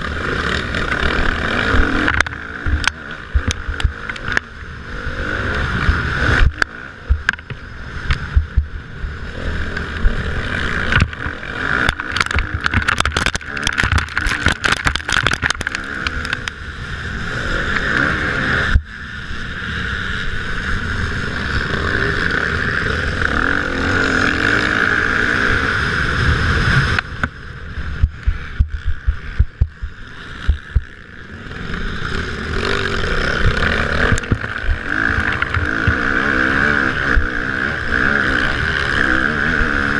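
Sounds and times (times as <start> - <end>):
motocross motorcycle engines racing: 0.0 - 39.9.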